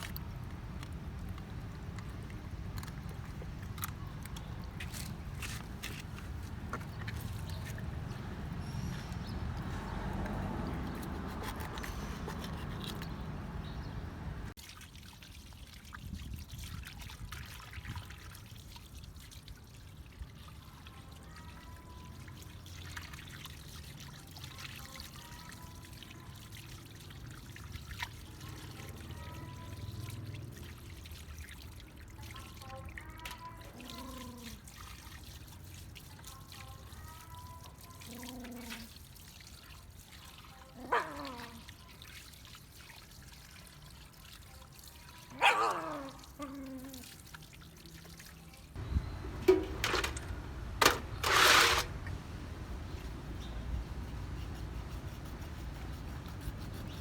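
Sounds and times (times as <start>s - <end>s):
water drips and splashes: 0.0s - 51.2s
water pouring and trickling: 0.0s - 54.2s.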